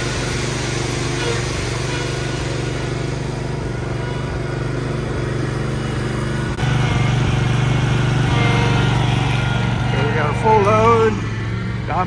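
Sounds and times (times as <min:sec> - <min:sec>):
truck engines running: 0:00.0 - 0:12.0.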